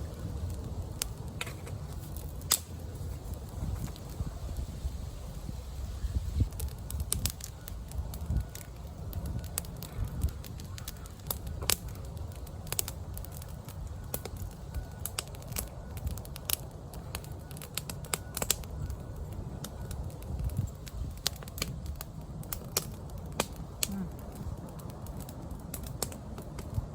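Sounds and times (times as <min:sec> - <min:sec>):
campfire crackling and popping: 0:00.0 - 0:26.9
low steady rumble: 0:00.0 - 0:26.9.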